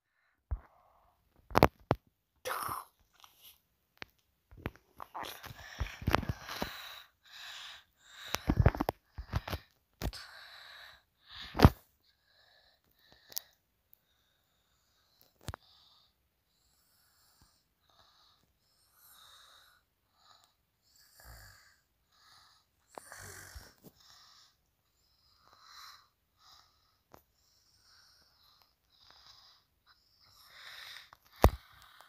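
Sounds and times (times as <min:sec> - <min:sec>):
faint breathing puffs: 0:04.7 - 0:32.0.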